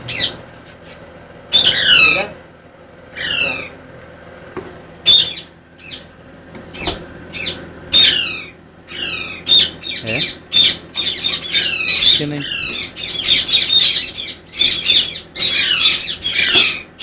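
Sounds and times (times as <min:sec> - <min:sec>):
birds squawking: 0:00.0 - 0:04.2, 0:04.9 - 0:17.0.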